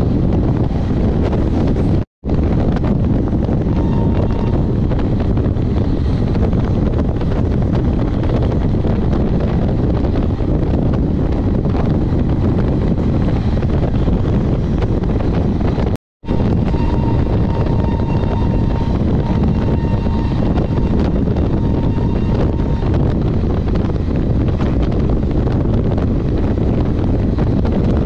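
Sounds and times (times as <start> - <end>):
train rumbling at speed: 0.0 - 28.0
wind buffeting microphone: 0.0 - 28.0.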